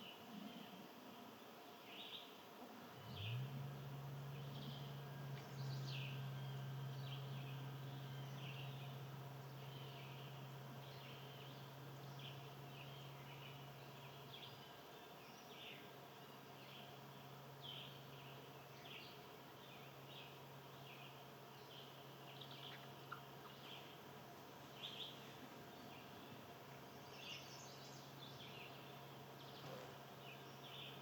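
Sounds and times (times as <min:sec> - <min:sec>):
small birds chirping: 0:00.0 - 0:31.0
steady low hum: 0:00.0 - 0:31.0.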